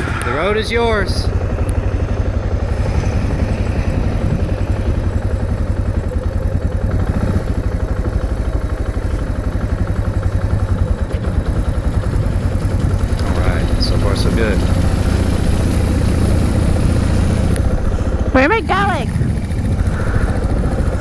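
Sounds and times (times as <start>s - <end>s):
motorcycle engine idling: 0.3s - 21.0s.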